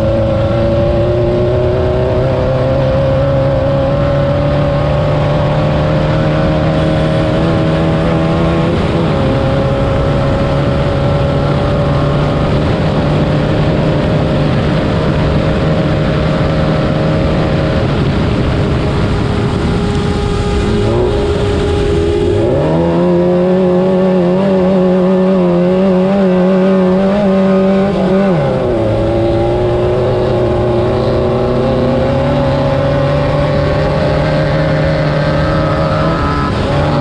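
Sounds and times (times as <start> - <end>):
racing buggy engine at high revs: 0.0 - 37.0
steady rushing noise: 0.0 - 37.0.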